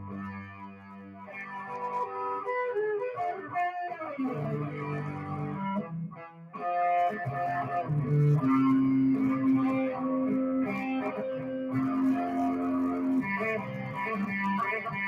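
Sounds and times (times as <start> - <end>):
electric guitar notes: 0.0 - 15.0.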